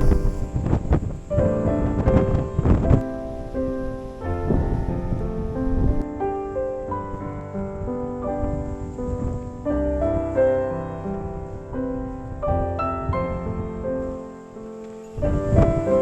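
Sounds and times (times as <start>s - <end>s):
gentle piano melody: 0.0s - 16.0s
low rumbling haze: 0.0s - 16.0s.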